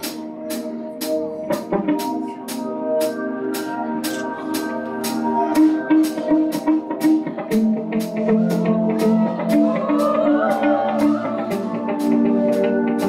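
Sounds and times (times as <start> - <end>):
drum kit: 0.0 - 13.0.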